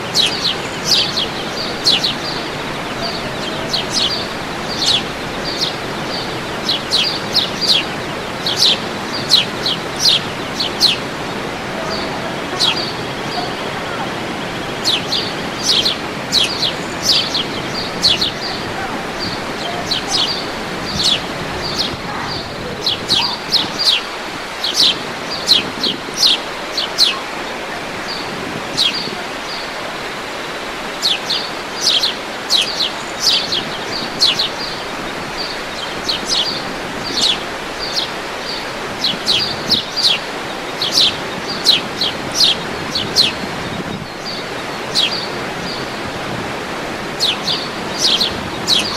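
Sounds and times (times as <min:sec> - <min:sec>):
birds chirping: 0:00.0 - 0:48.9
waterfall rushing: 0:00.0 - 0:48.9.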